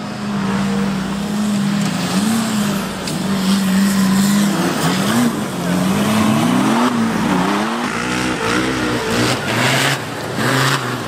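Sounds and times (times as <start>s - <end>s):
off-road engine revving hard: 1.3s - 11.0s.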